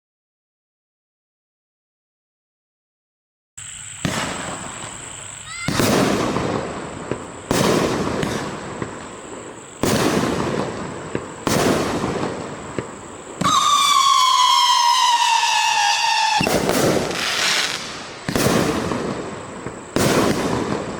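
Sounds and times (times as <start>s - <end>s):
fireworks shots: 3.6s - 20.9s
hissing crackling fireworks bursts: 3.6s - 20.9s
whistling firework: 3.6s - 20.9s.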